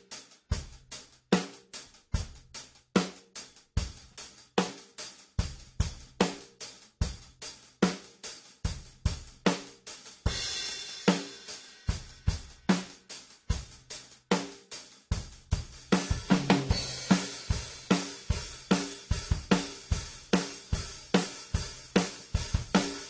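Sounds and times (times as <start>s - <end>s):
drum kit beat: 0.0s - 23.0s.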